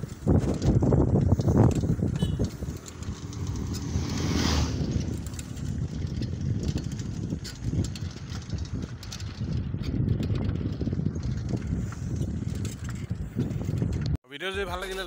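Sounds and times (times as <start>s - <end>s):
wind buffeting microphone: 0.0s - 14.2s
bicycle rattling over paved road: 0.0s - 15.0s.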